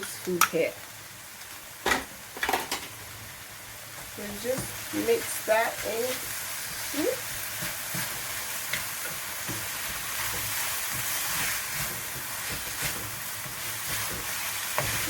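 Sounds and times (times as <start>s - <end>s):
sauce sizzling in a pot: 0.0s - 15.0s.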